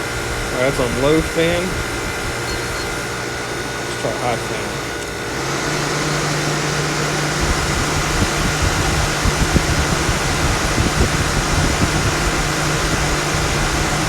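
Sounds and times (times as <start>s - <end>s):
window air conditioner humming: 0.0s - 14.0s.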